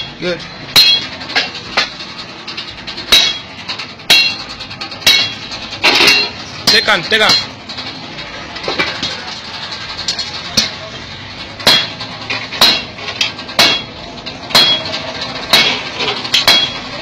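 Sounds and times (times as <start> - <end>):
hammer striking metal: 0.0 - 7.7, 10.0 - 10.8, 11.4 - 17.0.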